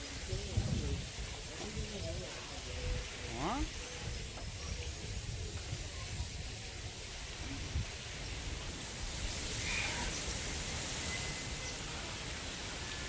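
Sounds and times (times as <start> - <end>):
high hiss: 0.0 - 13.0
wind rumbling on microphone: 0.0 - 13.0.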